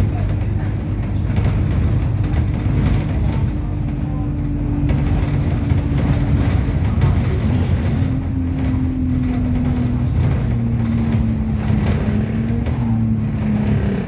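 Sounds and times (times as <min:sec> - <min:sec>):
bus engine droning: 0:00.0 - 0:14.0
engine whine: 0:00.0 - 0:14.0.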